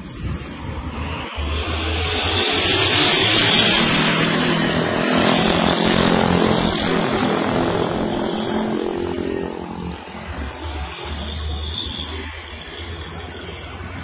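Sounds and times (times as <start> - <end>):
heavy truck passing: 0.0 - 14.0
motorbike engines: 0.0 - 14.0.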